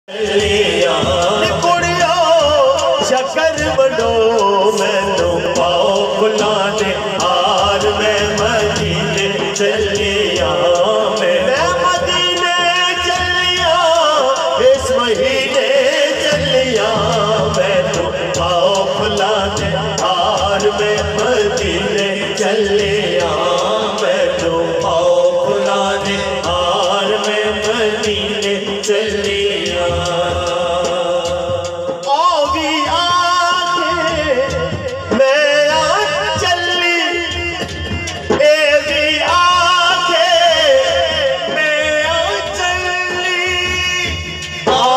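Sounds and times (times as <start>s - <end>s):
man singing through sound system: 0.0s - 44.9s
regular beat: 0.1s - 44.9s.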